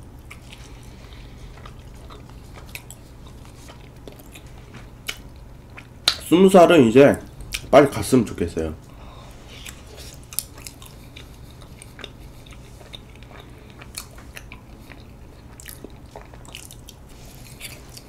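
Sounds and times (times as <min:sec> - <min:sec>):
mouth chewing sticky food: 0:00.0 - 0:06.3, 0:07.2 - 0:07.7, 0:08.8 - 0:18.0.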